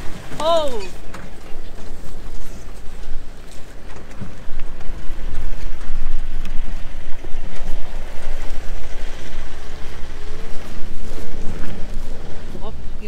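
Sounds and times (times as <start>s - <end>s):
heavy low rumble: 0.0s - 13.0s
truck engine working hard: 0.0s - 13.0s.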